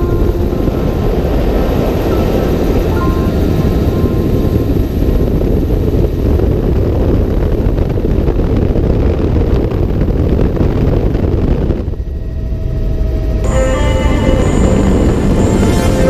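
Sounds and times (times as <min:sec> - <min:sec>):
wind buffeting microphone: 0:00.0 - 0:13.5
helicopter rotor and engine rumble: 0:00.0 - 0:16.0.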